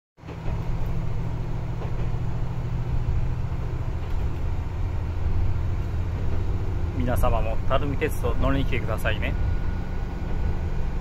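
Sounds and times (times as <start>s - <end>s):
railcar diesel engine rumble: 0.2s - 11.0s.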